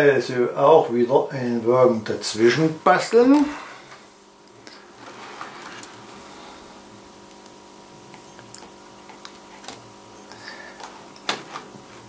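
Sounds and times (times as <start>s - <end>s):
electric motor hum: 0.7s - 12.0s.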